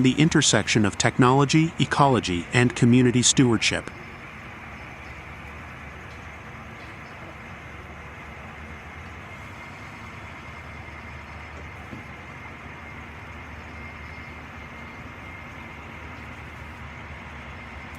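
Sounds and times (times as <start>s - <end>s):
diesel engine rumbling: 0.0s - 17.9s
high whine: 0.0s - 17.9s.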